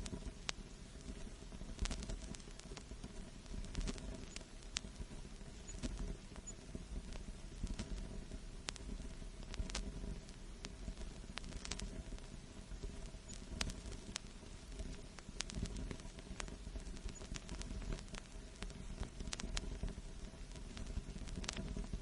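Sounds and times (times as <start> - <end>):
record clicks and pops: 0.0 - 22.0
vinyl record surface noise: 0.0 - 22.0.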